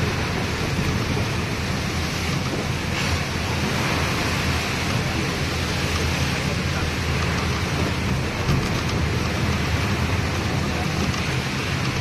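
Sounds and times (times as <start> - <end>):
road noise: 0.0 - 12.0
rushing wind: 0.0 - 12.0.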